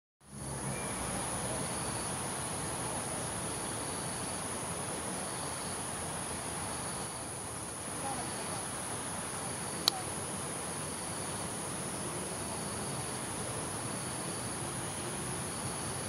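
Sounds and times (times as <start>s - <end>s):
insects droning: 0.2s - 16.0s
background hiss: 0.3s - 16.0s.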